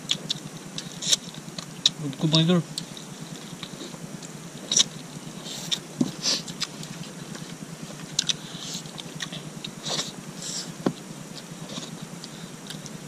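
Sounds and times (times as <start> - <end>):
chewing and lip-smacking: 0.0 - 2.0, 2.7 - 10.2, 11.0 - 13.0.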